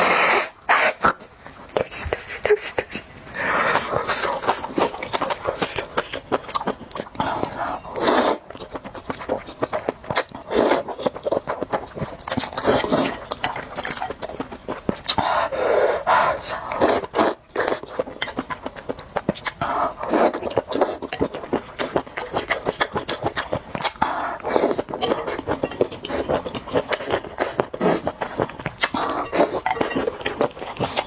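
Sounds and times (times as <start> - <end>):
slurping soup: 0.0 - 31.0
chewing with wet smacks: 1.0 - 31.0.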